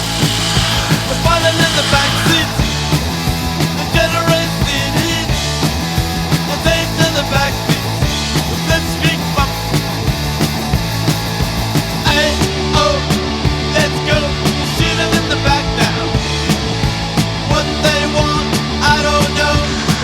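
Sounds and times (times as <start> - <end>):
rock music with guitars and drums: 0.0 - 20.0.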